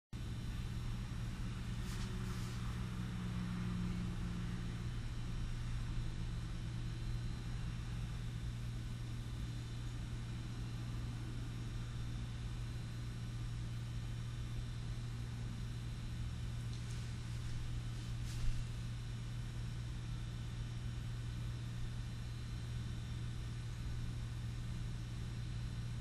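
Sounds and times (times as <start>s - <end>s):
steady low hum: 0.2s - 26.0s.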